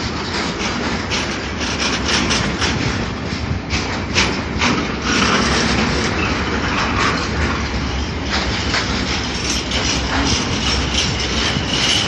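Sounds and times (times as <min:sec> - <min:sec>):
freight train wheels rumbling on rail: 0:00.0 - 0:12.0
wheels clacking over rail joints: 0:00.0 - 0:12.0.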